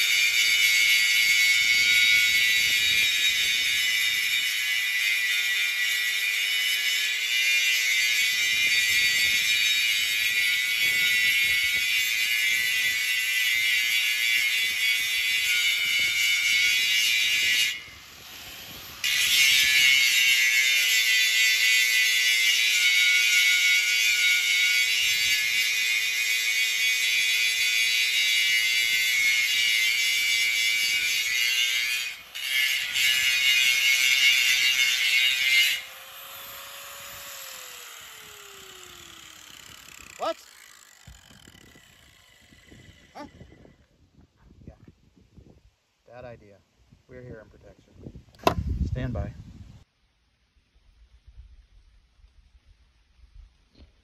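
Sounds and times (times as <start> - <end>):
angle grinder grinding steel: 0.0 - 43.8.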